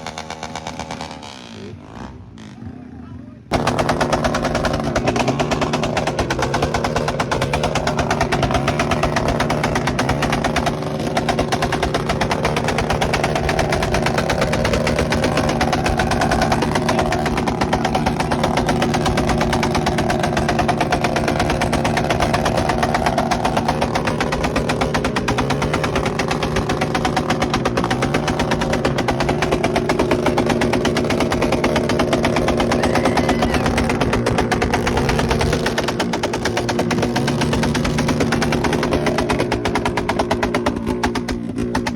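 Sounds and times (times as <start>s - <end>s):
motorcycle engines running: 0.0s - 41.9s.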